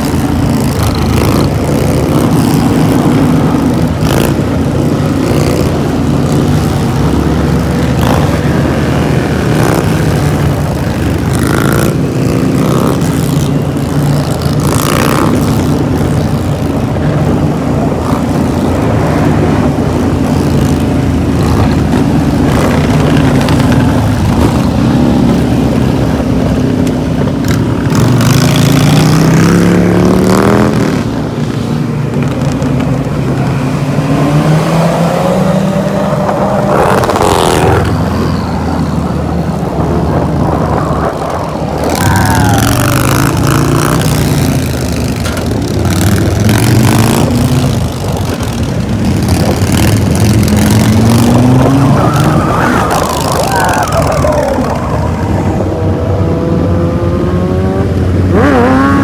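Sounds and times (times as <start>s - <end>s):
motorcycle engines running: 0.0s - 59.0s
rushing wind: 0.0s - 59.0s.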